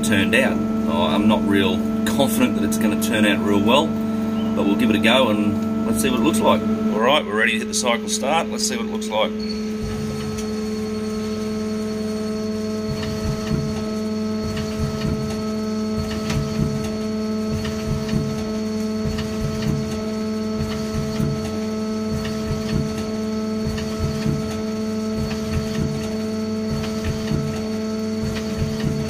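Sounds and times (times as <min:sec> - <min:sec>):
lathe motor humming: 0:00.0 - 0:29.0.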